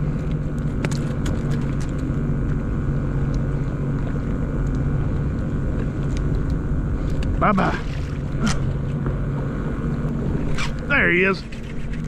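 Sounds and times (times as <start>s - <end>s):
jet ski engine idling: 0.0s - 12.0s.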